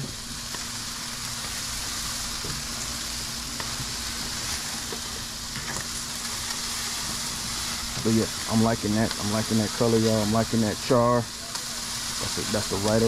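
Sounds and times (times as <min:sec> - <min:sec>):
chicken sizzling on a grill: 0:00.0 - 0:13.0.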